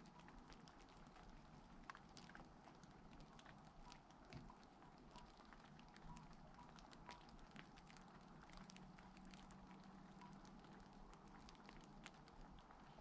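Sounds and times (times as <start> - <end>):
faint rain pattering: 0.0 - 13.0.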